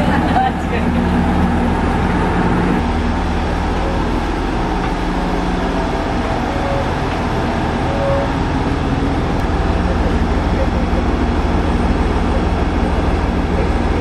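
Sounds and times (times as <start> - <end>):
diesel railcar engine idling: 0.0 - 14.0.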